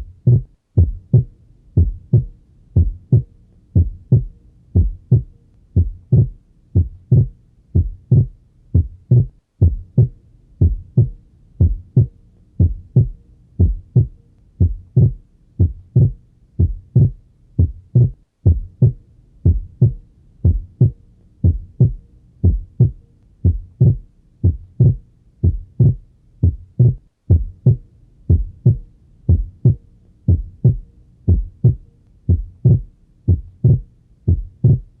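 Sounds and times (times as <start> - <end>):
heartbeat through stethoscope: 0.0 - 35.0.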